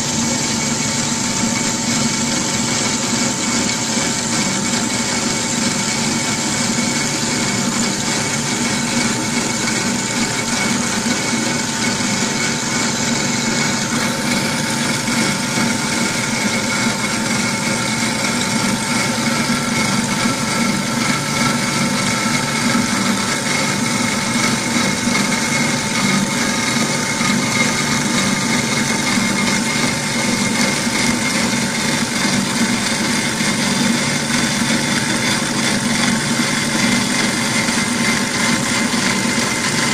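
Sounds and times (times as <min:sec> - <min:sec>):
band saw cutting metal: 0:00.0 - 0:39.9.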